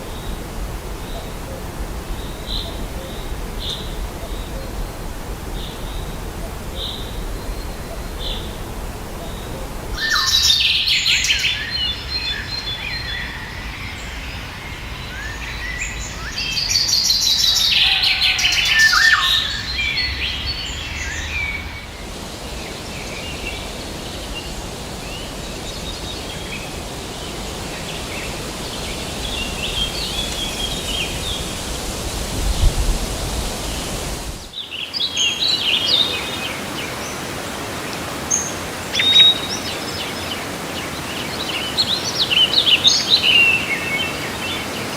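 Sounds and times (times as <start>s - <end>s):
forest ambience hiss: 0.0s - 44.9s
wild birds chirping: 0.0s - 44.9s.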